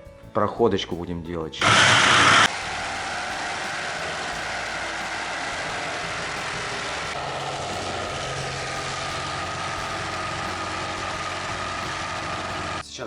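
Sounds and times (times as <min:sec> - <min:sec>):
electric power saw whining: 0:01.6 - 0:12.8.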